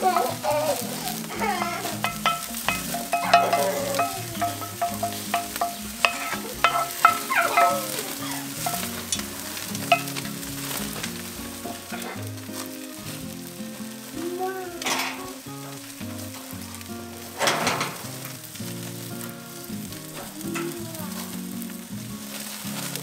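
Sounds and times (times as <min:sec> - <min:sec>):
fish sizzling on a grill: 0:00.0 - 0:23.0.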